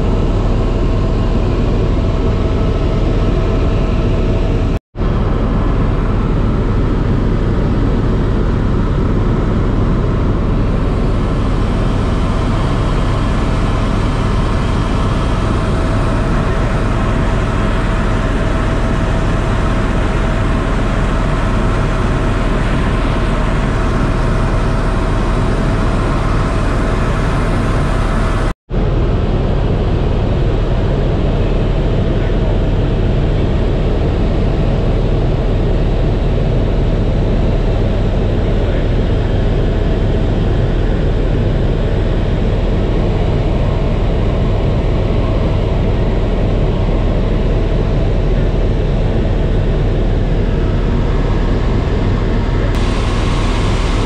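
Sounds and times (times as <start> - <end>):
helicopter engine and rotor in cabin: 0.0 - 54.0.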